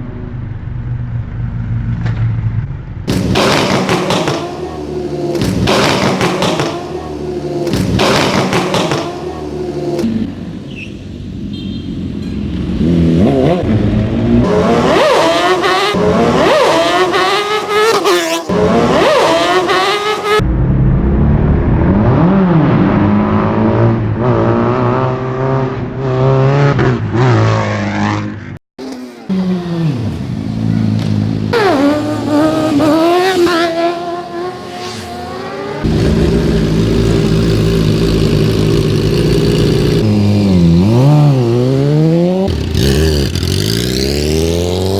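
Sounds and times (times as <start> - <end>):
motorbike engines revving: 3.1 - 20.4, 22.0 - 44.9.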